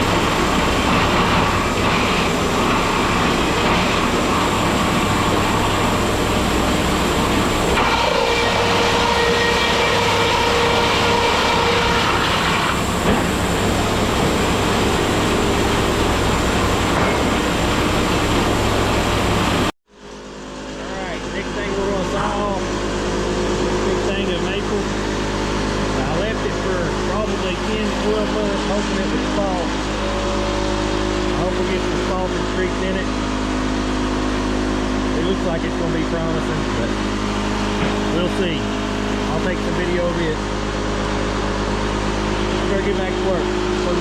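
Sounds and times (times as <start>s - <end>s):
high steady whine: 0.0s - 44.0s
sawmill engine hum: 0.0s - 44.0s.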